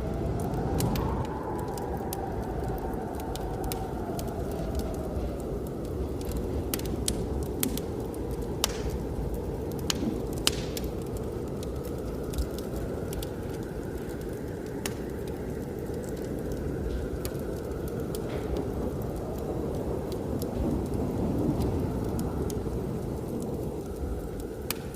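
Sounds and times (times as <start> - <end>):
blizzard wind roar: 0.0 - 24.9
wood fire crackling and popping: 0.0 - 24.9.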